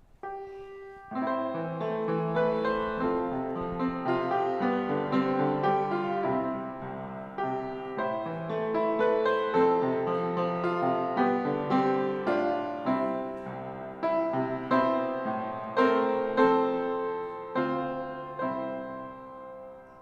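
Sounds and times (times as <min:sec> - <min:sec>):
piano chords ringing: 0:00.0 - 0:20.0.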